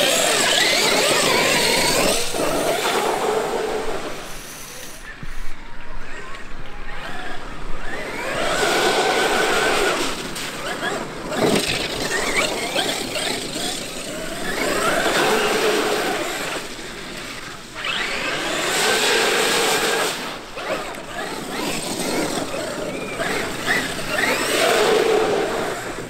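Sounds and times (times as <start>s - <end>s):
rc truck motor whine: 0.0s - 26.0s.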